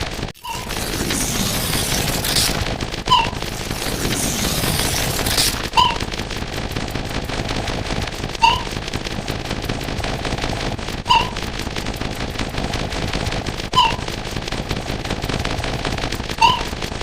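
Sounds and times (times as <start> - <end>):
rapid-fire clicking crackle: 0.0 - 17.0.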